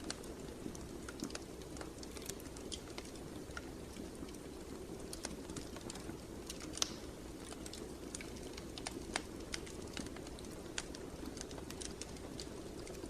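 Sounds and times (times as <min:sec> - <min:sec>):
fire crackling: 0:00.0 - 0:13.0.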